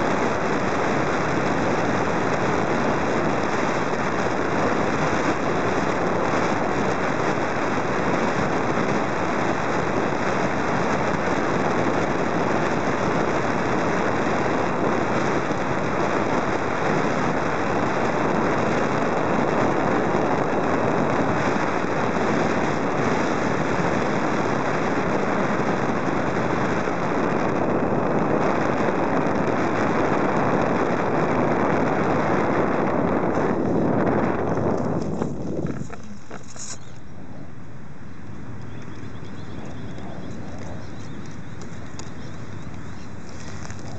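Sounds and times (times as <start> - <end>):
airflow and motor rushing: 0.0 - 43.9.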